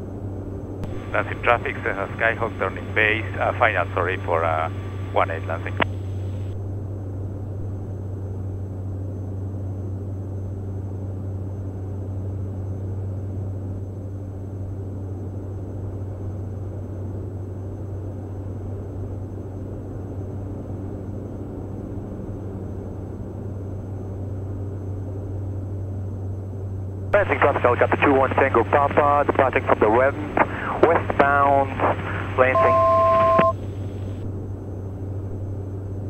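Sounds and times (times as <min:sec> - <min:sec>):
aircraft cabin engine drone: 0:00.0 - 0:36.0.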